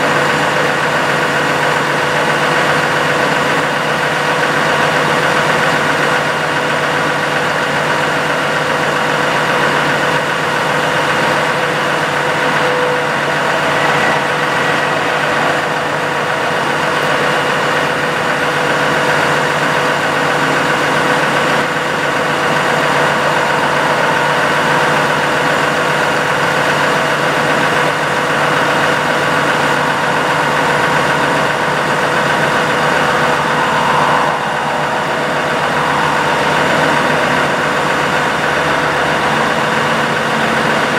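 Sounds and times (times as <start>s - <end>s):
diesel truck engine running: 0.0s - 40.9s
hydraulic whine: 0.0s - 40.9s.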